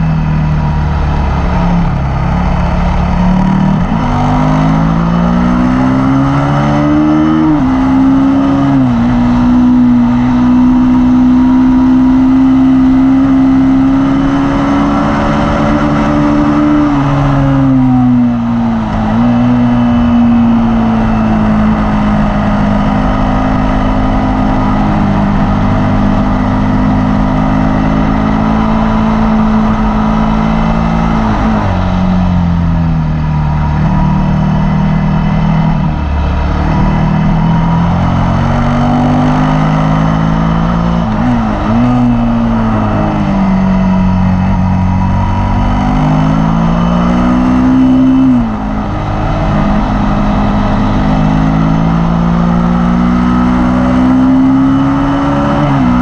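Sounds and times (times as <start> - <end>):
motorcycle engine running hard: 0.0 - 56.0.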